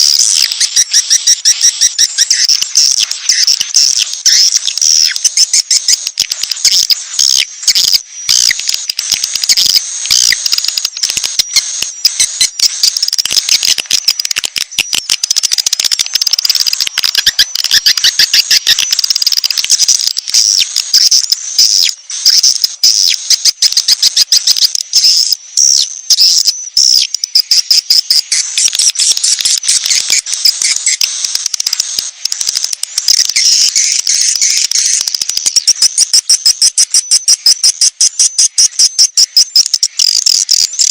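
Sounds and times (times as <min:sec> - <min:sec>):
rapid insect-like ticking: 0:00.0 - 0:40.9
small birds chirping and trilling: 0:00.0 - 0:40.9.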